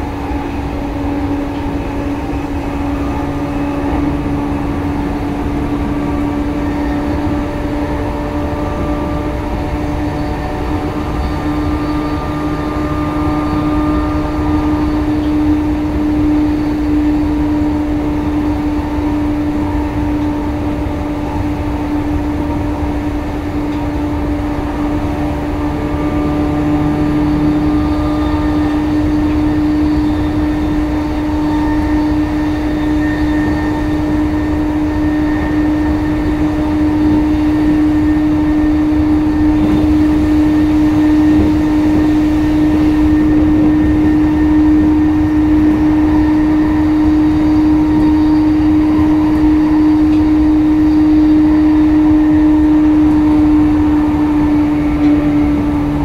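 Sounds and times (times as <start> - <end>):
steady train hum: 0.0 - 56.0
train wheels rumbling on rails: 0.0 - 56.0.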